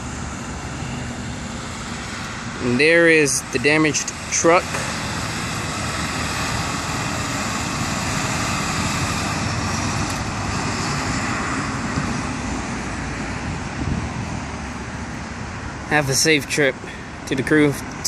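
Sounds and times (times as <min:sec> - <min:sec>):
highway traffic noise: 0:00.0 - 0:18.0.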